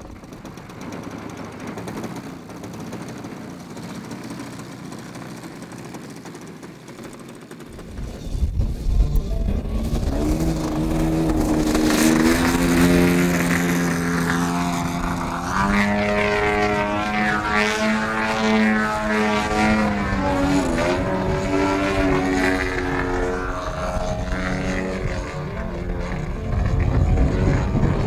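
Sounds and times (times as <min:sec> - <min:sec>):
model plane engine running: 0:00.0 - 0:28.0.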